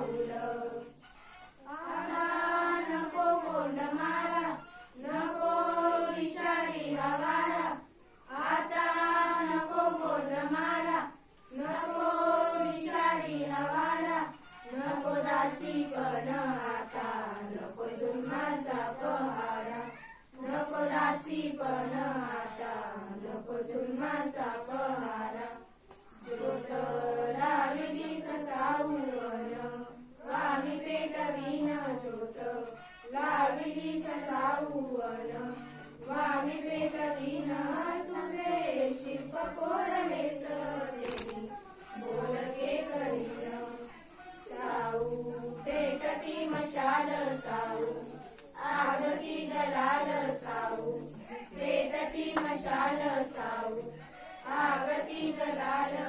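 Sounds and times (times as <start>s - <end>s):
girls singing in unison: 0.0s - 56.0s.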